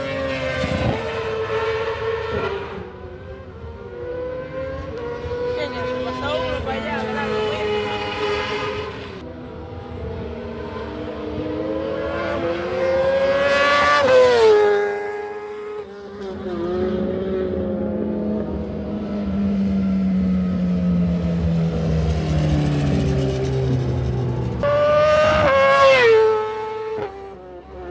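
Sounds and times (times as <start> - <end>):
racing motorcycle engines revving: 0.0 - 27.9.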